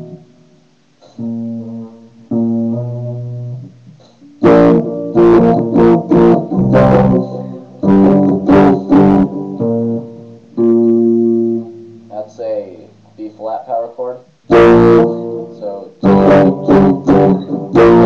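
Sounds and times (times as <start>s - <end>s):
guitar power chords ringing: 0.0s - 13.6s, 14.4s - 18.0s
hard strummed guitar chords: 0.0s - 18.0s.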